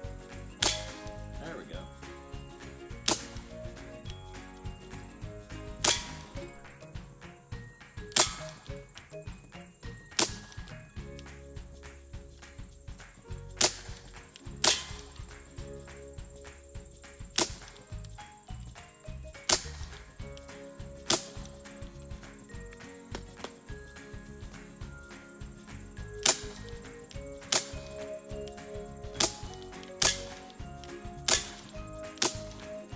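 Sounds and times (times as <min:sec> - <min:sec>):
bb pistol firing pops: 0:00.6 - 0:01.3, 0:02.9 - 0:07.0, 0:07.9 - 0:18.3, 0:19.4 - 0:24.7, 0:25.7 - 0:32.9.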